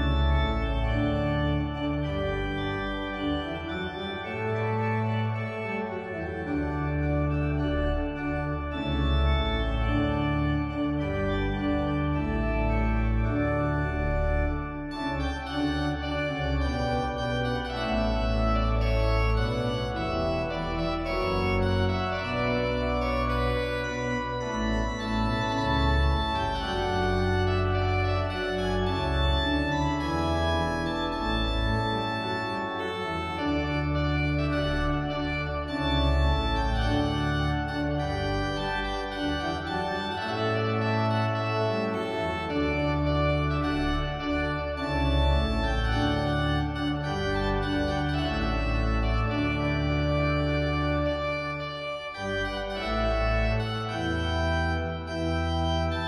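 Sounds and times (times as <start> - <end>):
organ music: 0.0 - 56.0.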